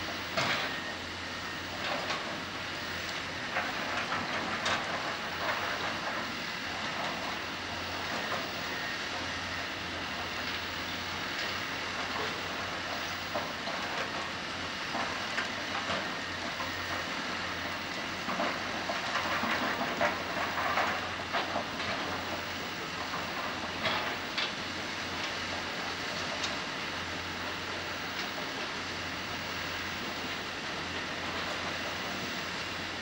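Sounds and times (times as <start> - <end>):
excavator diesel hum: 0.0 - 33.0.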